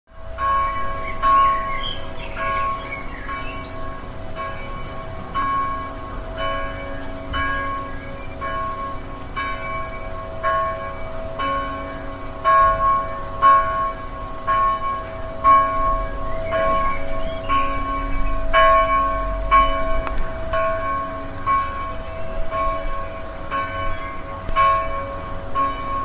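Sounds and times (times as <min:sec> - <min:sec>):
church bell ringing: 0:00.1 - 0:26.0.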